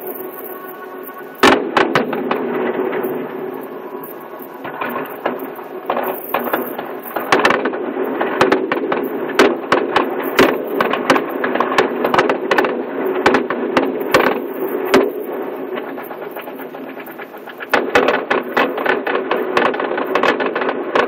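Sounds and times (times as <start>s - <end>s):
fireworks bangs and cracks: 0.0s - 21.0s.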